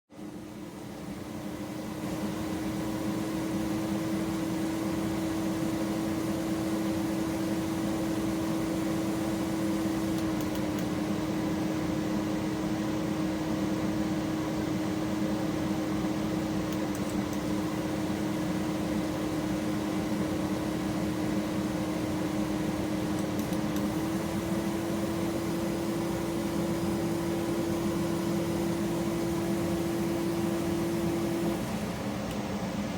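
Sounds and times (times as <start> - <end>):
test bench buzzing hum: 0.1 - 32.9.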